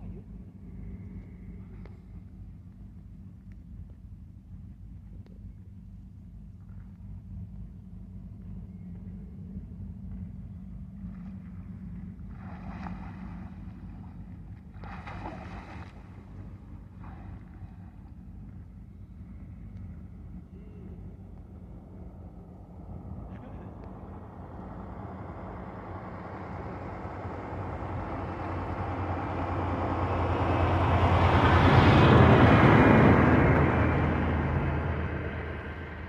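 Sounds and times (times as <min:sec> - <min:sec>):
low engine hum: 0:00.0 - 0:36.0
passing motor engine: 0:00.0 - 0:36.0.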